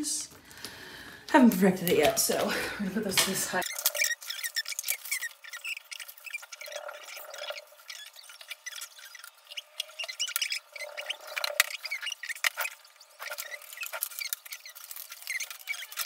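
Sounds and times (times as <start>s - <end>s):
plastic packets rustling: 0.5s - 16.0s.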